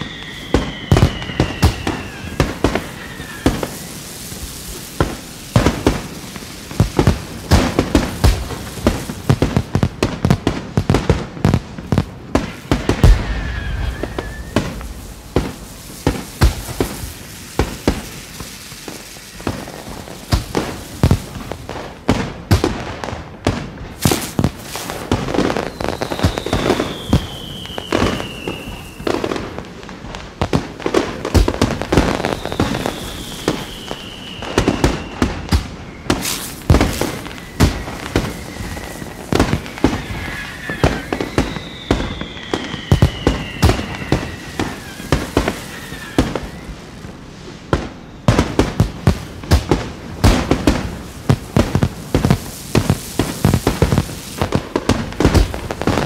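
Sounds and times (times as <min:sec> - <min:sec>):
falling firework whistles: 0:00.0 - 0:56.0
fireworks bangs and crackling: 0:00.0 - 0:56.0.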